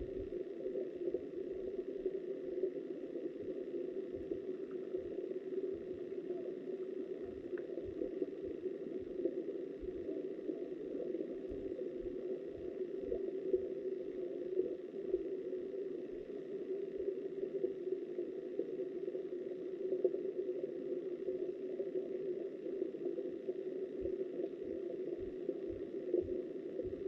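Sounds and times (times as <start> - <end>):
muffled underwater water rushing: 0.0 - 27.0.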